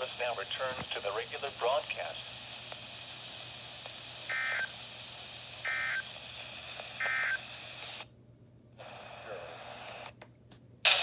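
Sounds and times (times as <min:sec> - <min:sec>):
radio hiss: 0:00.0 - 0:08.0, 0:08.8 - 0:10.1.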